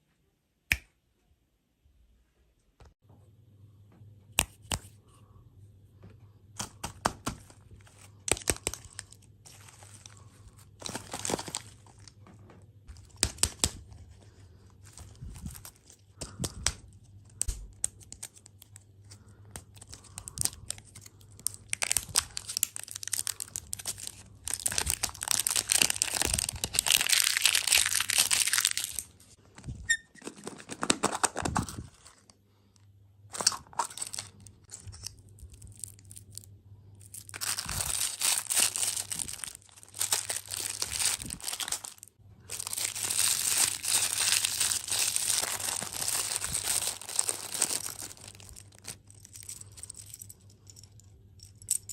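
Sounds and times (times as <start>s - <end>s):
plastic wrappers crinkling: 6.6s - 32.4s, 33.3s - 50.3s.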